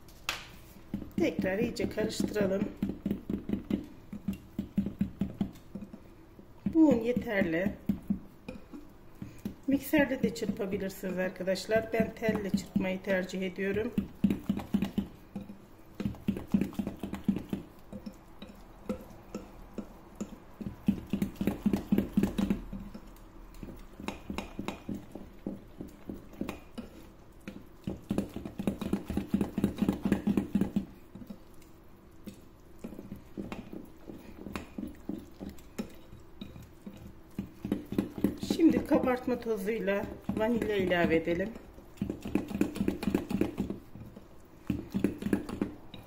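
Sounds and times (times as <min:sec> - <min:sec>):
whisk beating batter in glass bowl: 0:00.7 - 0:46.0.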